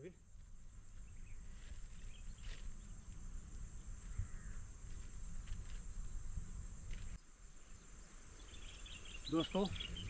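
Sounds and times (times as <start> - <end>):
high insect drone: 0.0 - 10.0
wind rumbling on microphone: 0.2 - 10.0.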